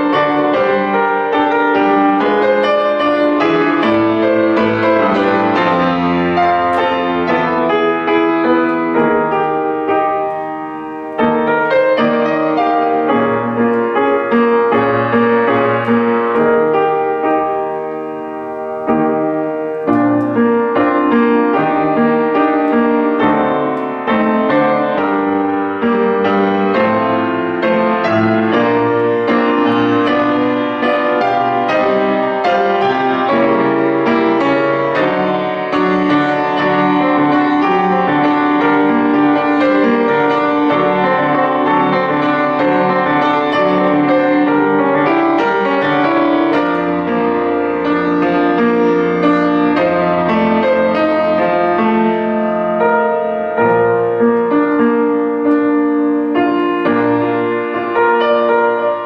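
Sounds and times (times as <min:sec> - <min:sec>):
solo piano piece: 0:00.0 - 0:59.0.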